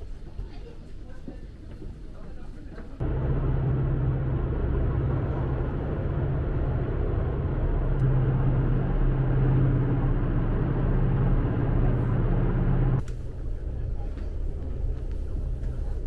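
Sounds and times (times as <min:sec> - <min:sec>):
boat engines droning: 0:03.0 - 0:16.0.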